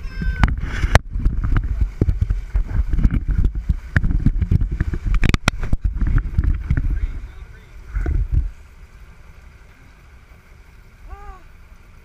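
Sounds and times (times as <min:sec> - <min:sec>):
water splashing along hull: 0:00.0 - 0:12.0
wind rumbling on microphone: 0:00.0 - 0:12.0.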